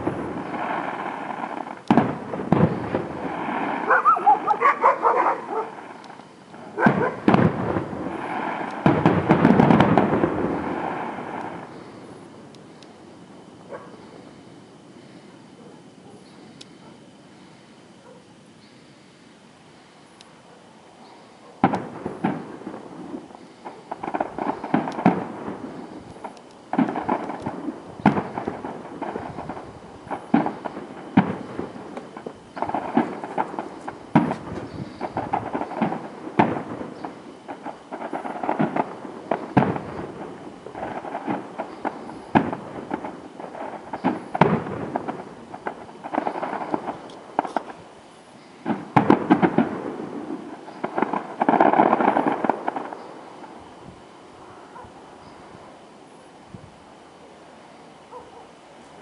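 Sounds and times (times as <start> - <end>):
firework crackling: 0.0 - 18.9, 21.2 - 58.2.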